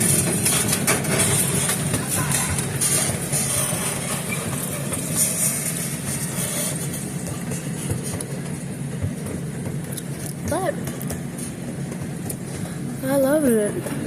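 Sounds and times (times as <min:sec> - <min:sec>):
train rumbling on board: 0:00.0 - 0:14.0.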